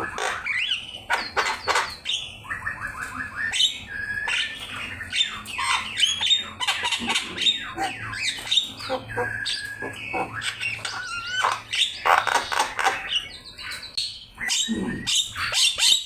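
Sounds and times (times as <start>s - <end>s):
bird song with squawks and whistles: 0.0s - 16.0s.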